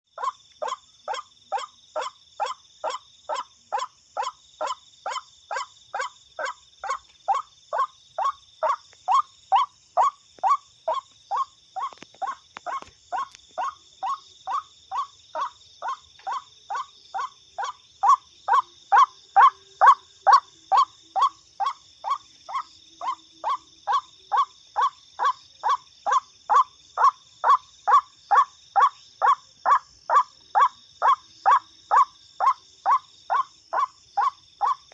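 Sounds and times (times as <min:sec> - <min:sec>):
waterhen calls: 0:00.2 - 0:34.9.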